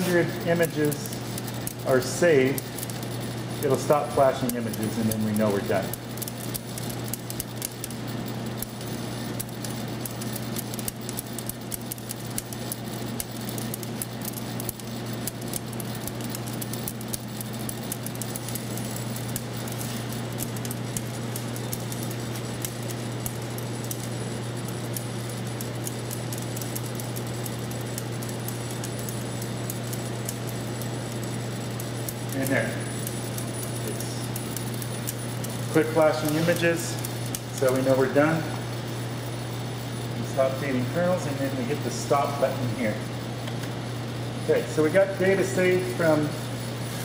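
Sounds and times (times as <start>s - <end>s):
vibratory feeder humming: 0.0s - 47.0s.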